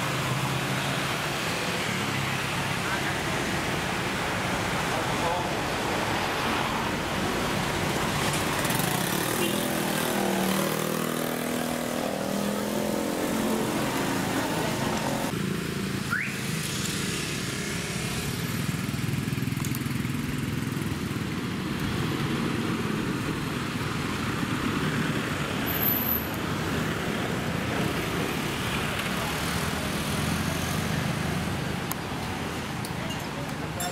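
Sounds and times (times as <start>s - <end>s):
vehicles driving past: 0.0s - 33.9s.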